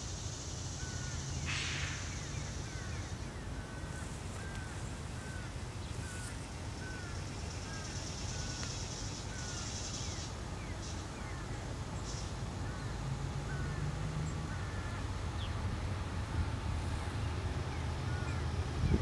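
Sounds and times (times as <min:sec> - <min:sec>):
distant diesel locomotive rumble: 0:00.0 - 0:19.0.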